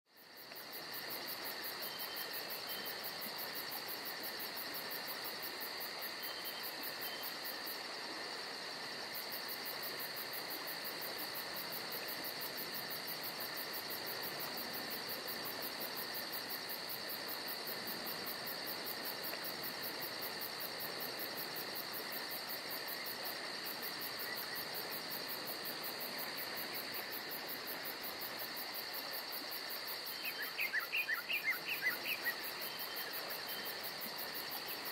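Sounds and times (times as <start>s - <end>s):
high-pitched insect trills: 0.1s - 7.9s, 8.5s - 34.9s.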